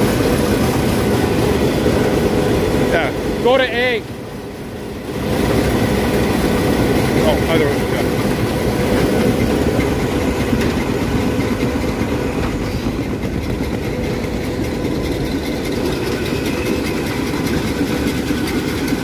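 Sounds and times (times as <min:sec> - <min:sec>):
combine harvester running: 0:00.0 - 0:19.0
fine fast rattle: 0:00.0 - 0:19.0.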